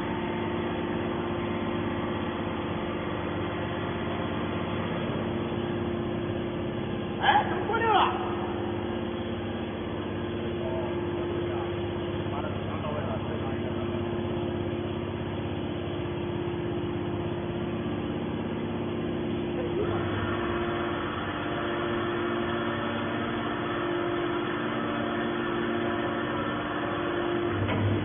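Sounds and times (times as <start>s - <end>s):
baler motor and pump humming: 0.0s - 28.0s.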